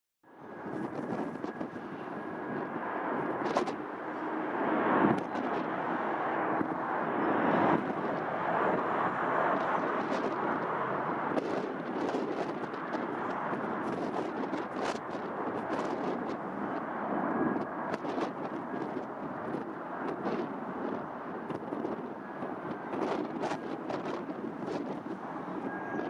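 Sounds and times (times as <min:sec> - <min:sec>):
jet engines at takeoff power: 0:00.3 - 0:26.0
wind buffeting microphone: 0:00.3 - 0:26.0.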